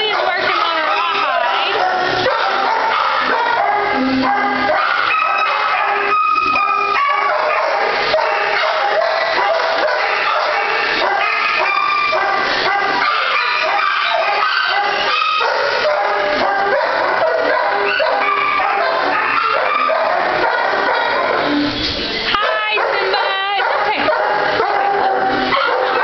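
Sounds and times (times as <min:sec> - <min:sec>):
many dogs barking: 0:00.0 - 0:21.8, 0:22.4 - 0:26.0.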